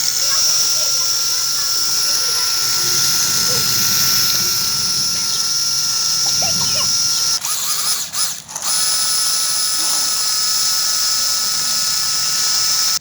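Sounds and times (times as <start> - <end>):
tractor engine with high whine: 0.0 - 13.0.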